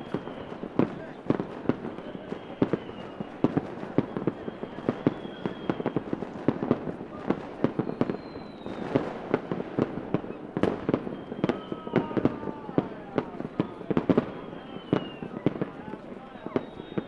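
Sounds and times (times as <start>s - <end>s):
fireworks bangs and pops: 0.0s - 17.0s
fireworks crackling: 0.0s - 17.0s
fireworks whistles: 0.0s - 17.0s.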